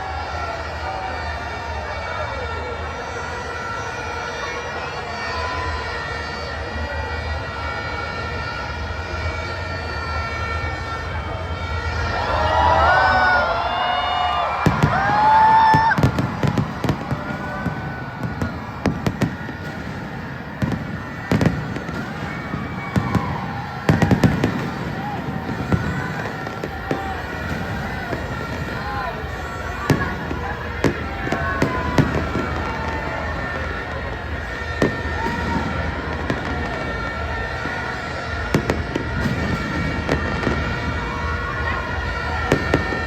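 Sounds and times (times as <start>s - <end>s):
continuous din: 0.0s - 43.0s
fireworks bangs: 0.0s - 43.0s
fireworks crackling: 0.0s - 43.0s.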